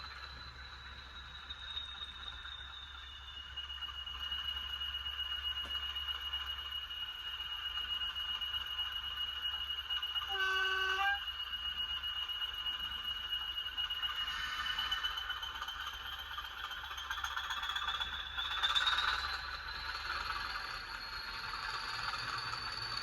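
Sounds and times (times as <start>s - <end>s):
model locomotive whine and hum: 0.0s - 23.0s.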